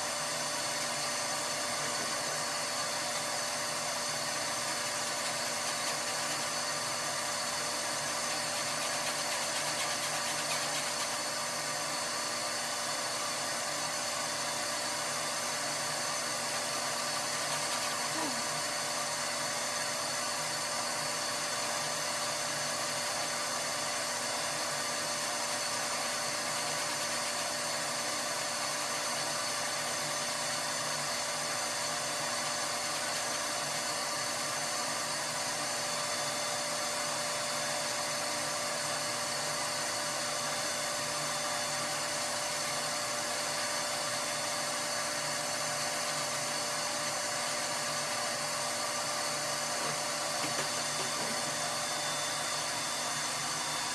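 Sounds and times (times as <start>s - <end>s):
small electric motor whining: 0.0s - 53.9s.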